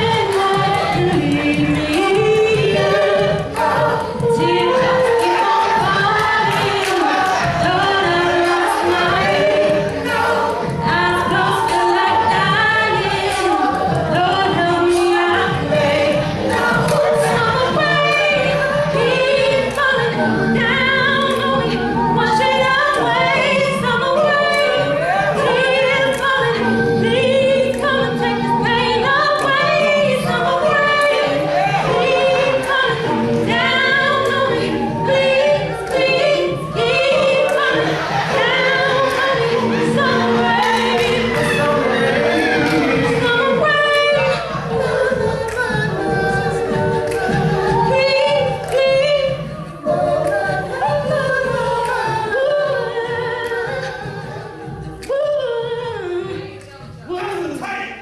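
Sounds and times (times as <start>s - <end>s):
a cappella ensemble singing: 0.0s - 58.0s.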